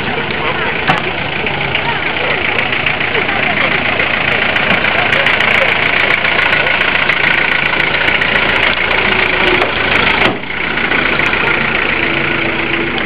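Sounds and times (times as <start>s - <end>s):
off-road vehicle engine idling: 0.0s - 13.0s.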